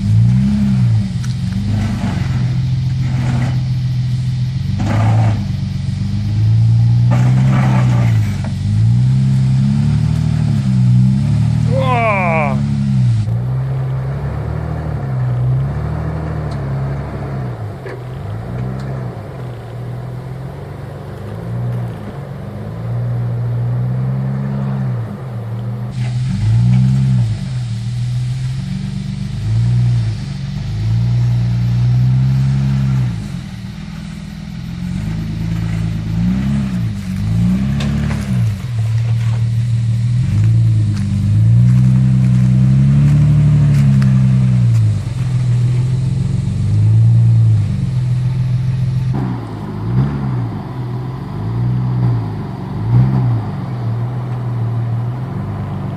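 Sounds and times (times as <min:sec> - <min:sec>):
engine revving under load: 0:00.0 - 0:55.9.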